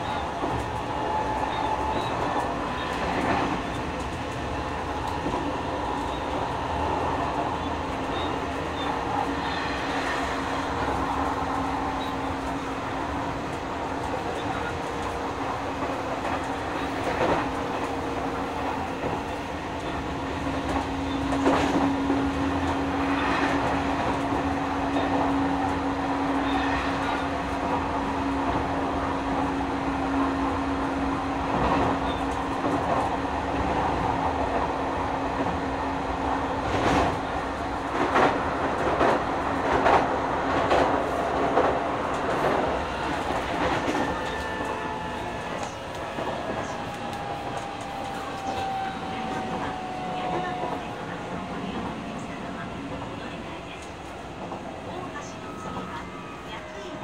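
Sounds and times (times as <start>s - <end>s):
electric train rumble and hum: 0.0s - 57.0s.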